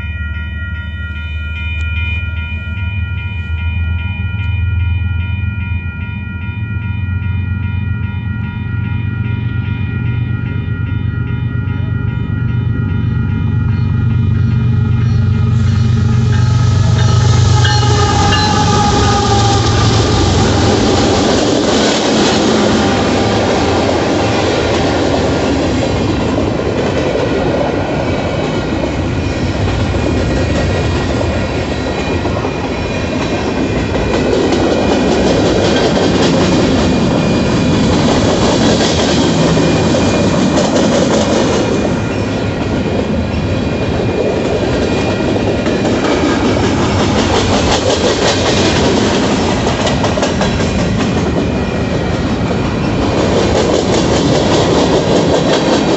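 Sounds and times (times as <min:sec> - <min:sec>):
freight train rumbling past: 0:00.0 - 0:55.9.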